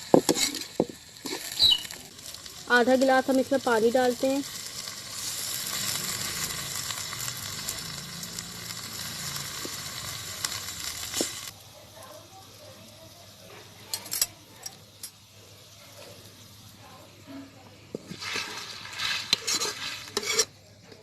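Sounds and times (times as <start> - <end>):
greens sizzling in a hot pan: 0.0 - 21.0.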